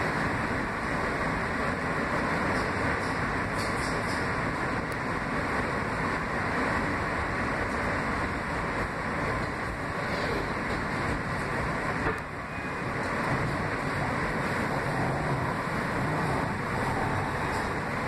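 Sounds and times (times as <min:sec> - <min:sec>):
subway wheels rumbling on rails: 0:00.0 - 0:18.0.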